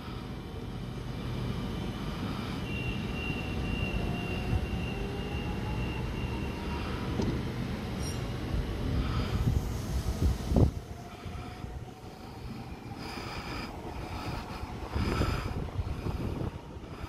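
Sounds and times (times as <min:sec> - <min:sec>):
high train whine: 0:00.0 - 0:17.0
train rumble: 0:00.0 - 0:17.0.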